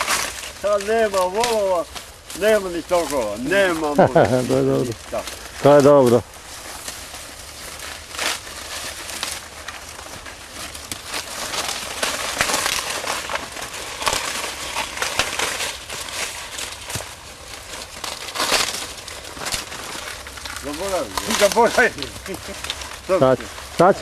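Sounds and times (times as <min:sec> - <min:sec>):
dry corn stalks rustling: 0:00.0 - 0:24.0
stalks snapping: 0:00.0 - 0:24.0.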